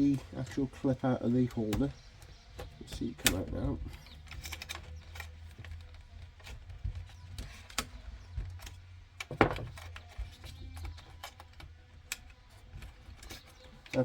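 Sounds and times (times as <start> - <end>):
plastic parts clicking and knocking: 0.0 - 14.0.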